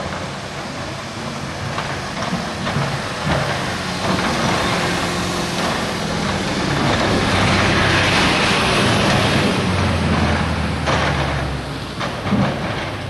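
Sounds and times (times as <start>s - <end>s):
excavator diesel engine under load: 0.0s - 13.0s.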